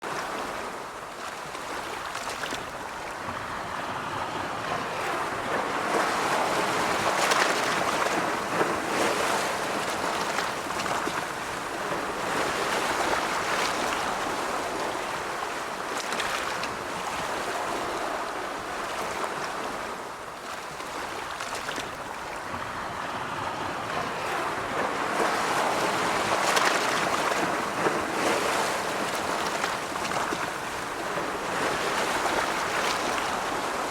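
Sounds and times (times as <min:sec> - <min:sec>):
sea waves breaking: 0:00.0 - 0:33.9.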